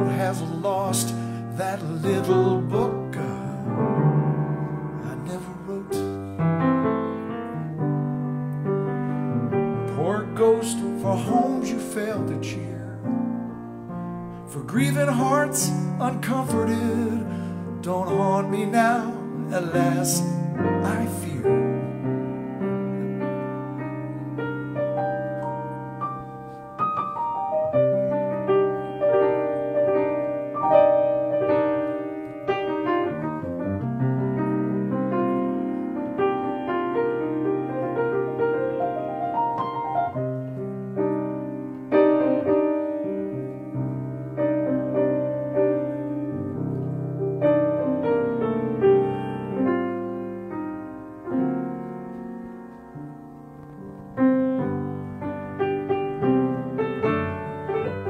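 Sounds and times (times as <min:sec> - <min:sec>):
solo piano melody: 0:00.0 - 0:58.0.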